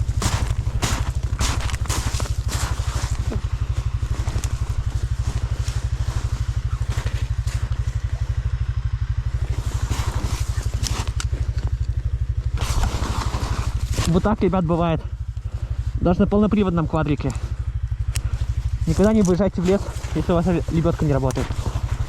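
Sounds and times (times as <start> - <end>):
quad bike engine idling: 0.0 - 22.0.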